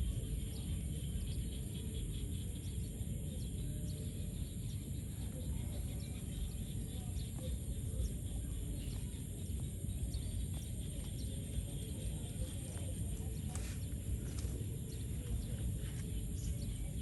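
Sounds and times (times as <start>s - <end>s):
constant high-pitched hum: 0.0s - 17.0s
steady low rumble: 0.0s - 17.0s.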